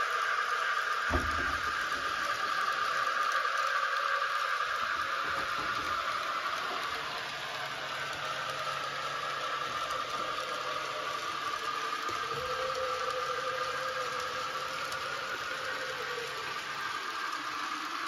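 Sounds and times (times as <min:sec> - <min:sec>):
model steam locomotive sound: 0:00.0 - 0:18.0
model train wheels whirring: 0:00.0 - 0:18.0.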